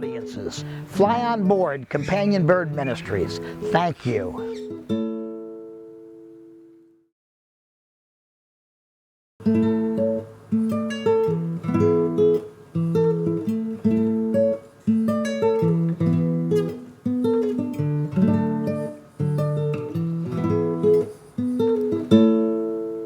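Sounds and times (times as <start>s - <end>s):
acoustic guitar music: 0.0s - 6.8s, 9.4s - 23.0s.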